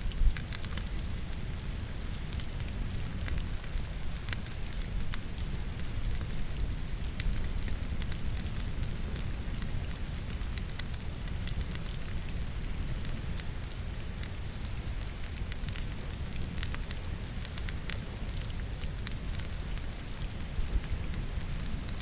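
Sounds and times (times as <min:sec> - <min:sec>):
logs crackling in a fireplace: 0:00.0 - 0:22.0
steady rain: 0:00.0 - 0:22.0.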